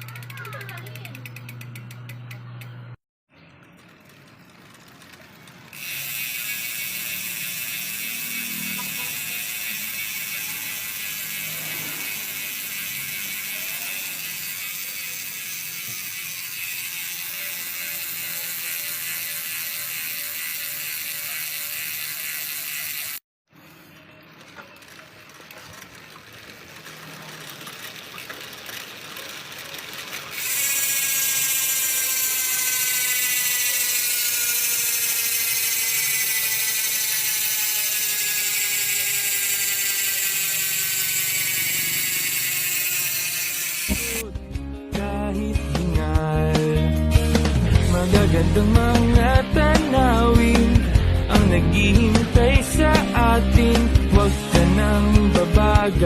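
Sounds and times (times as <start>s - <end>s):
bicycle hub buzzing: 0.0s - 44.2s, 47.7s - 56.0s.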